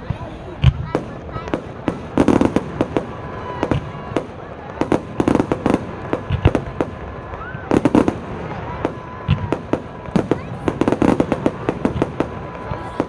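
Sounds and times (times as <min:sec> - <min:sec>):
fireworks bangs and crackles: 0:00.0 - 0:13.0
heavy fireworks booms: 0:00.0 - 0:13.0.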